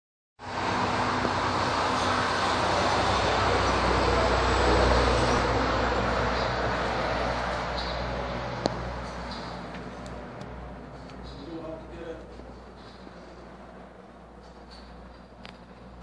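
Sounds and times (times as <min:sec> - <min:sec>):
road traffic rush: 0:00.4 - 0:16.0.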